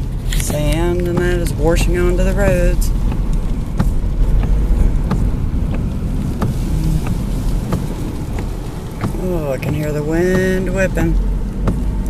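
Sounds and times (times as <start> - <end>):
storm wind gusting: 1.6 - 11.5.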